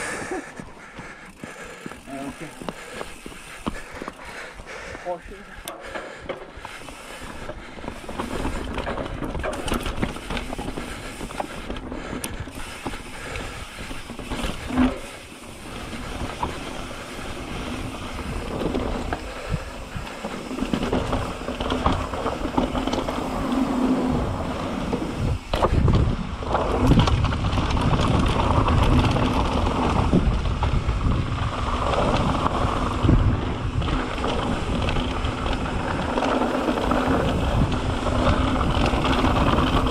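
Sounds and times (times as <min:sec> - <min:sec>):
bike drivetrain clicking and rattling: 0:00.0 - 0:39.9
tyres on dirt and rock: 0:00.0 - 0:39.9.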